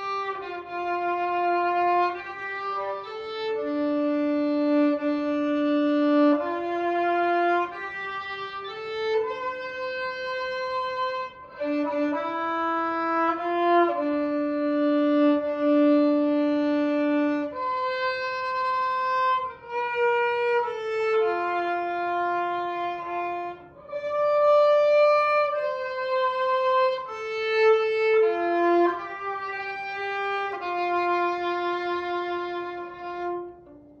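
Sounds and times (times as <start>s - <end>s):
slow solo violin melody: 0.0s - 34.0s.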